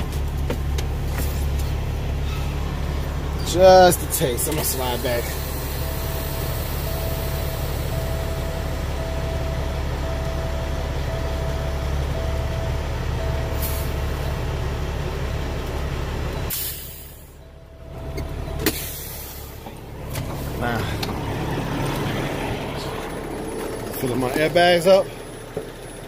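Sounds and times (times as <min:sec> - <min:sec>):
diesel truck engine rumbling: 0:00.0 - 0:26.0.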